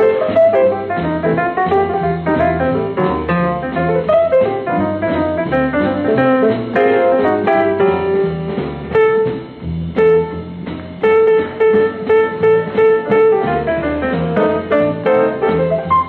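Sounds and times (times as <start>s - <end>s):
solo jazz piano: 0.0s - 16.0s.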